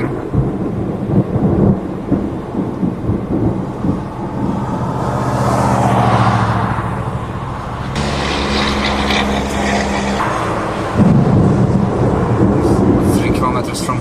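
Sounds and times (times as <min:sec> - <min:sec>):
road traffic passing: 0:00.8 - 0:14.0.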